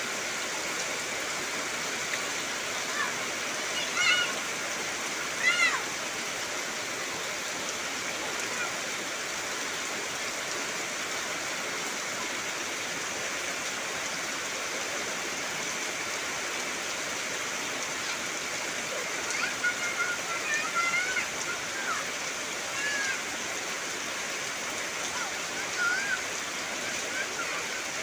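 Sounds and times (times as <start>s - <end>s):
heavy rain hissing: 0.0s - 28.0s.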